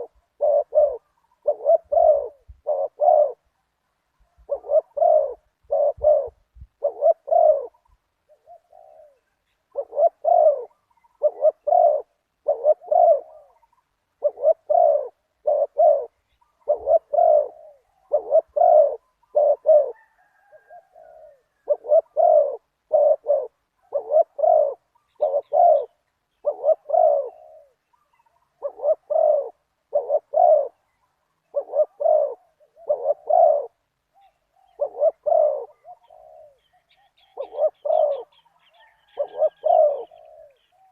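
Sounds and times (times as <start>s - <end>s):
doves cooing: 0.0s - 3.6s, 4.2s - 40.9s.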